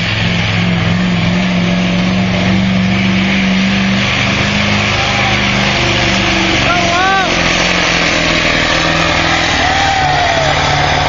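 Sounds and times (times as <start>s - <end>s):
diesel engine at high revs: 0.0s - 11.0s.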